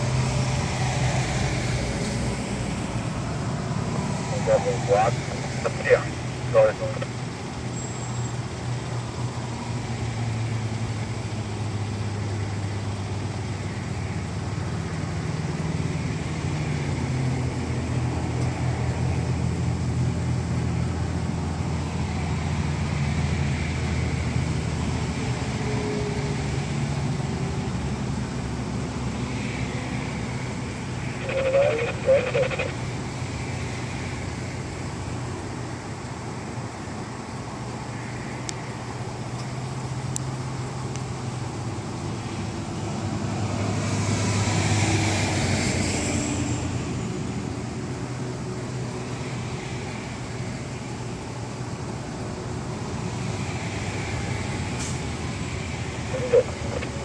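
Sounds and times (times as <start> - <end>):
truck diesel engine rumbling: 0.0 - 44.4, 46.6 - 57.0.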